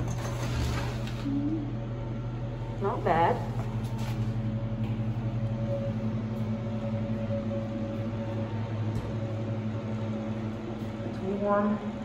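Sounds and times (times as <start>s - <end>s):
electric heater fan humming: 0.0s - 12.0s.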